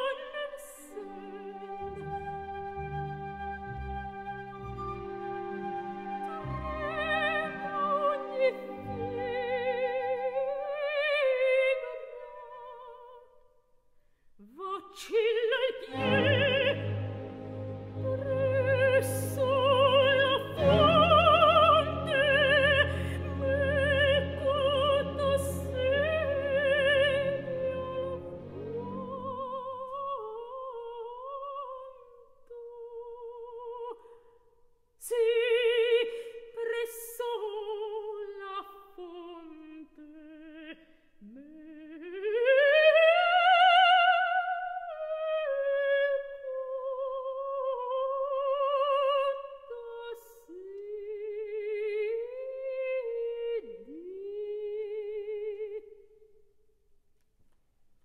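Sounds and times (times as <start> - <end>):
operatic soprano singing: 0.0 - 13.4, 14.4 - 34.2, 35.0 - 56.2.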